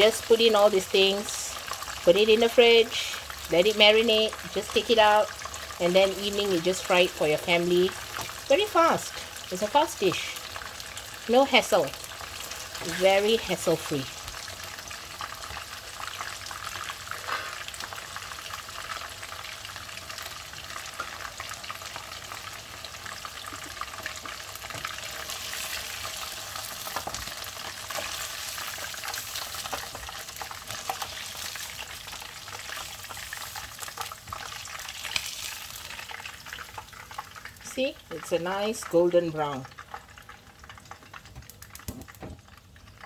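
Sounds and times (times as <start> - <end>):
chicken sizzling in hot oil: 0.0 - 43.0.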